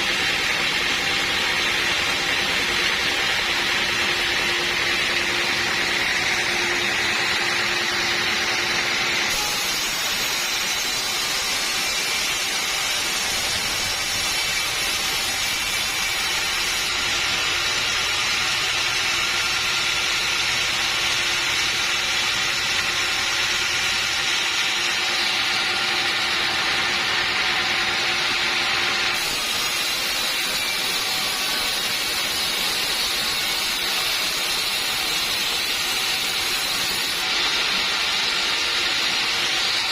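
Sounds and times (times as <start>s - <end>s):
saw cutting timber: 0.0s - 39.9s.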